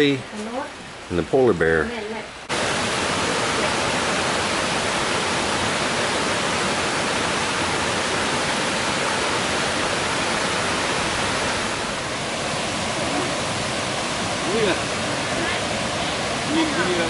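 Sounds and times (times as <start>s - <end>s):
waterfall rushing: 1.1s - 17.0s.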